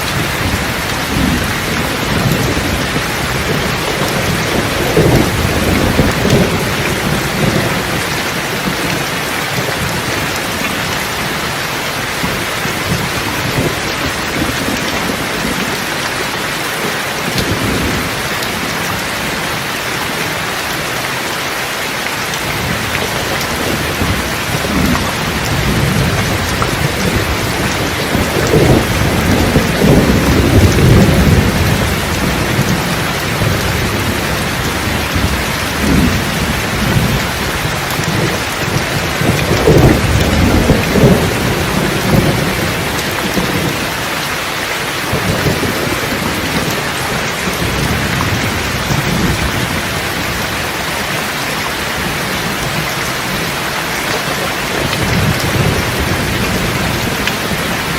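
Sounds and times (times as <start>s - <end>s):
thunder rumbling: 0.0s - 19.7s, 22.3s - 57.9s
steady rain: 0.0s - 57.9s.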